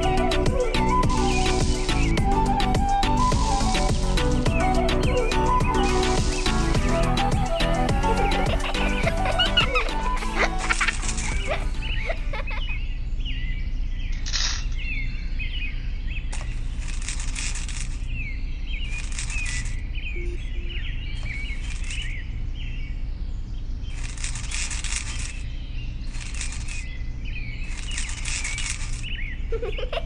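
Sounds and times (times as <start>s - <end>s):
small birds chirping: 0.0s - 30.0s
steady low hum: 4.0s - 30.0s.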